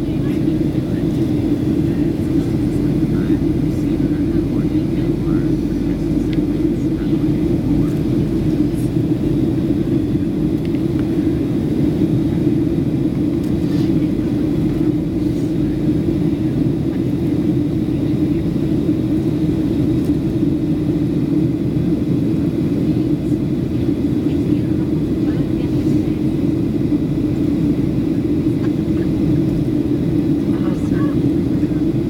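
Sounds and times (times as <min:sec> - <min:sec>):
airplane cabin engine and airflow rumble: 0:00.0 - 0:32.0.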